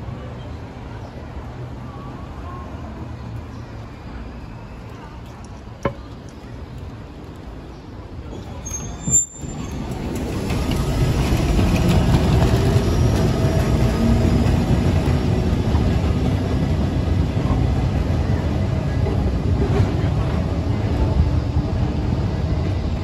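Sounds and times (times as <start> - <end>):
tram wheels and motors rumbling: 0.0 - 23.0.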